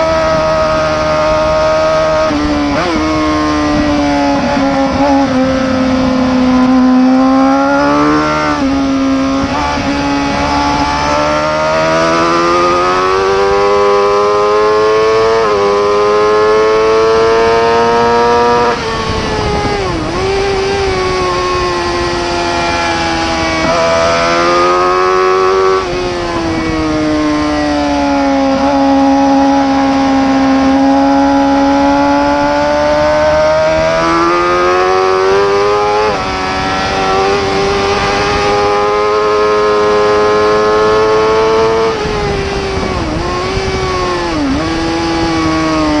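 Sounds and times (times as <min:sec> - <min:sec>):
motorcycle engine at high revs: 0:00.0 - 0:46.0.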